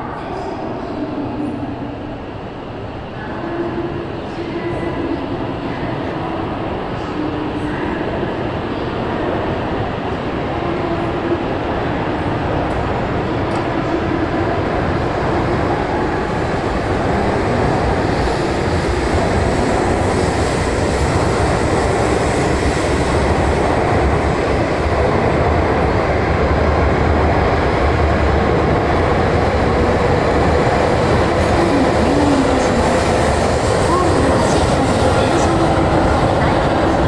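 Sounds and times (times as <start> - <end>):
train rumbling past in station: 0.0 - 37.0.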